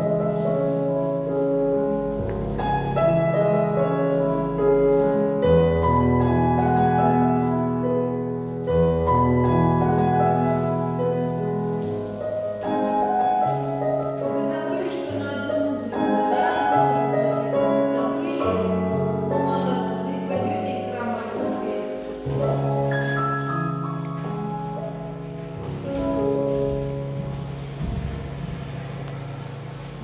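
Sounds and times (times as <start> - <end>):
classical piano music: 0.0 - 30.0.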